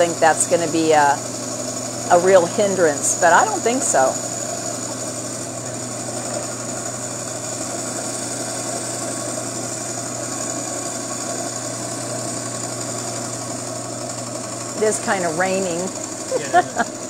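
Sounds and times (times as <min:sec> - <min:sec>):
band saw grinding glass: 0:00.0 - 0:16.9.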